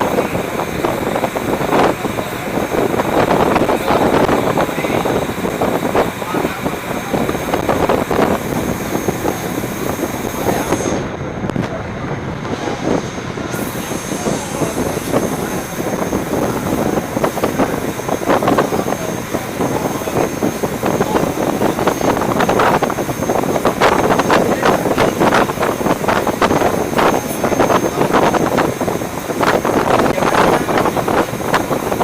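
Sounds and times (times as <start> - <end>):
boat engine running: 0.0 - 32.0
wind rushing over microphone: 0.0 - 32.0.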